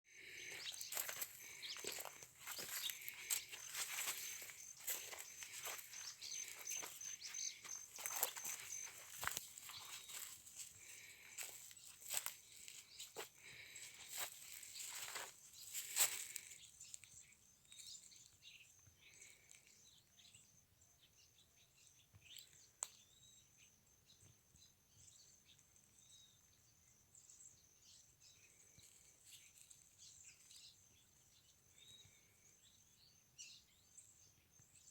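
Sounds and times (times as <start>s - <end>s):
small bird chirps: 0.2s - 10.7s, 14.1s - 34.9s.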